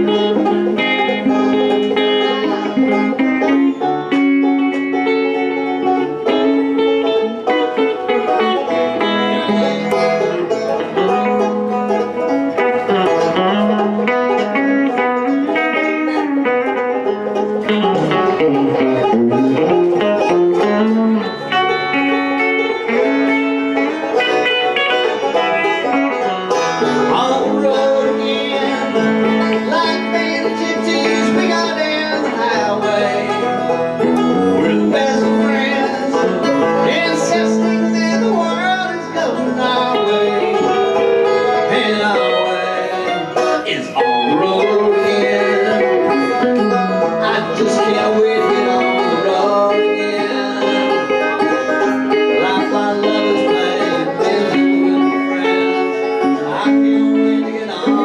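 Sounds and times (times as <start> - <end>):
banjo picking: 0.0 - 58.0
bluegrass band playing: 0.0 - 58.0
electric guitar: 0.0 - 58.0.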